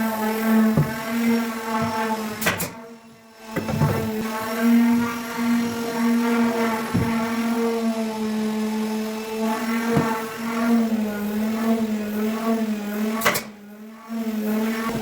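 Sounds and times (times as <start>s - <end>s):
electric power tool motor humming: 0.0s - 13.1s.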